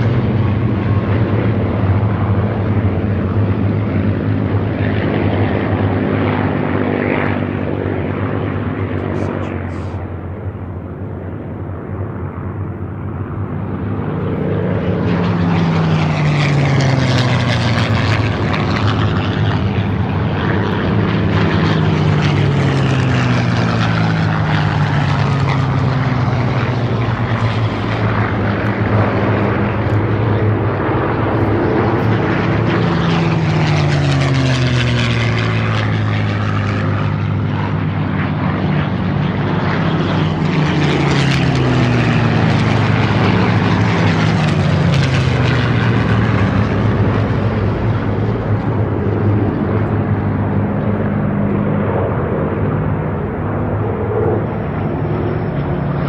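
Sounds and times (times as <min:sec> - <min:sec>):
propeller aircraft flying overhead: 0:00.0 - 0:56.0.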